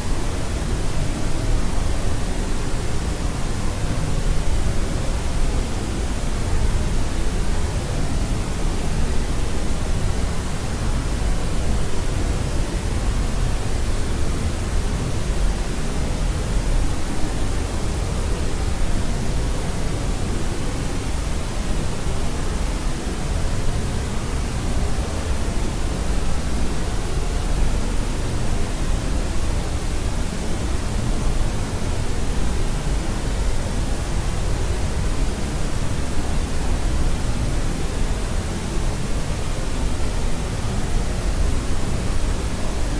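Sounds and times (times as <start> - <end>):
white noise hiss: 0.0 - 42.9.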